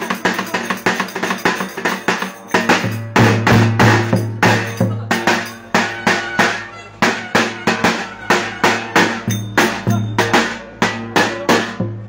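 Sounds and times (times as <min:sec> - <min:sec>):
large bass drum beating: 0:00.0 - 0:12.0.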